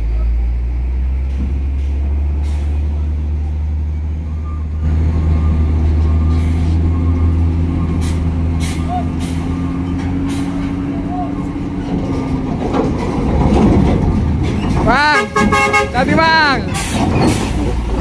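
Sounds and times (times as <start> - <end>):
truck diesel engine under load: 0.0 - 18.0.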